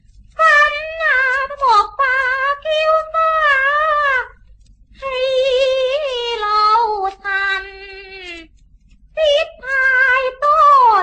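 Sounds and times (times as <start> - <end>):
woman singing opera: 0.4 - 4.4, 5.0 - 8.5, 9.2 - 11.0.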